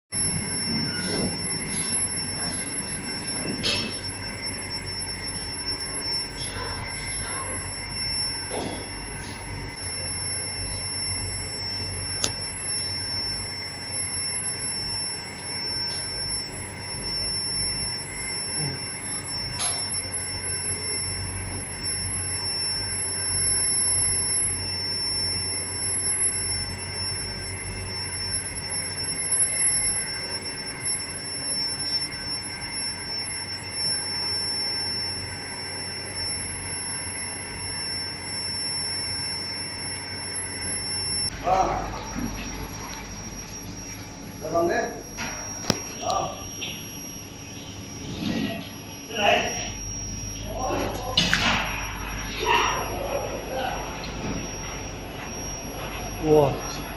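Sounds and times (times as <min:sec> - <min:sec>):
furnace whine and hum: 0:00.1 - 0:56.9.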